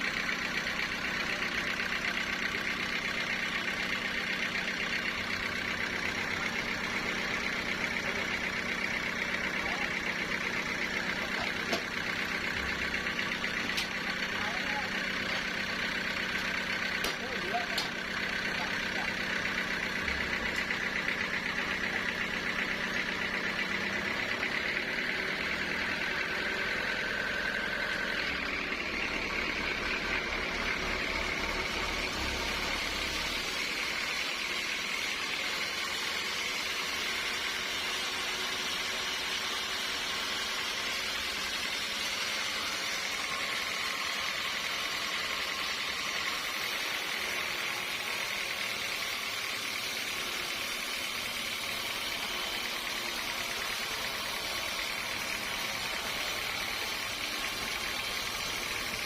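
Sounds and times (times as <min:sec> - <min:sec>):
low motor hum: 0:00.0 - 0:59.0
high-pitched machine noise: 0:03.4 - 0:59.0.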